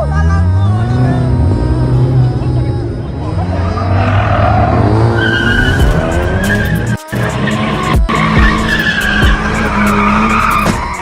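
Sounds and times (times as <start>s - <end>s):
car engine running loud: 0.0s - 11.0s
car tyres squealing: 0.0s - 11.0s.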